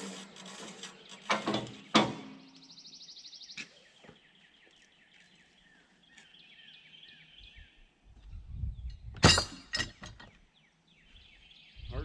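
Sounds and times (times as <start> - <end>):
birds chirping: 0.8 - 9.1, 9.7 - 12.0.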